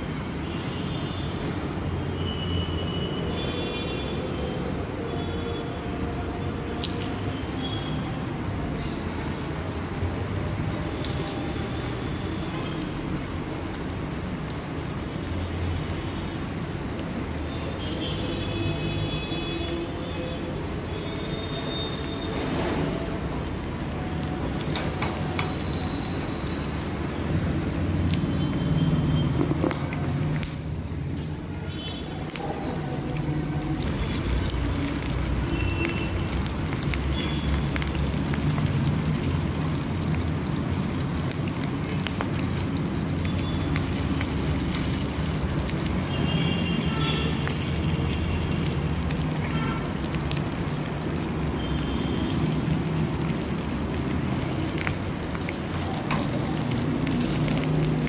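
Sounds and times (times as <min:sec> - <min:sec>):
oil sizzling and crackling: 0:04.8 - 0:58.0.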